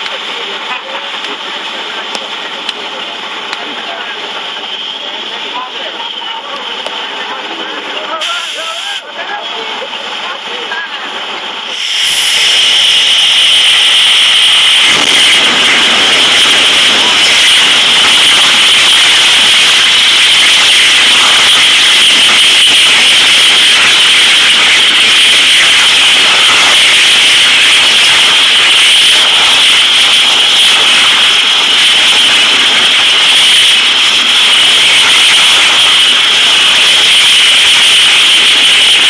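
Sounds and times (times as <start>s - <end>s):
burning gas jet rushing hiss: 0.0s - 39.0s
fire hose spray: 0.0s - 39.0s.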